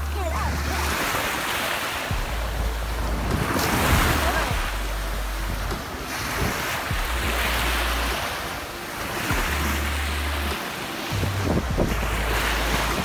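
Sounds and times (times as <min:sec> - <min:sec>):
small waves breaking on shore: 0:00.0 - 0:13.0
wind buffeting microphone: 0:00.0 - 0:13.0.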